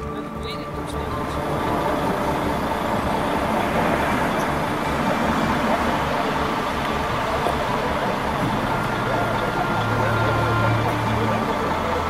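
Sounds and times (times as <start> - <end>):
coach engine drone: 0.0 - 12.0
road noise: 0.0 - 12.0.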